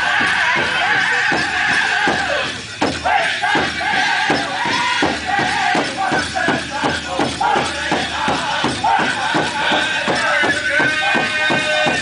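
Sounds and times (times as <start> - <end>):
group singing high held voices: 0.0 - 12.0
large bass drum beat: 0.0 - 12.0.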